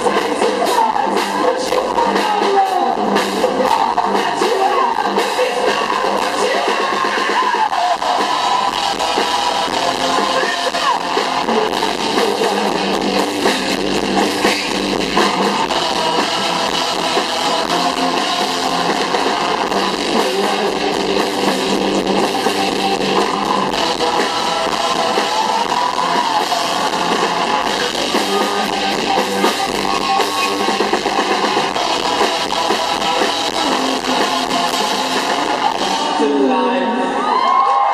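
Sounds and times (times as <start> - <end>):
rock band playing: 0.0 - 37.9.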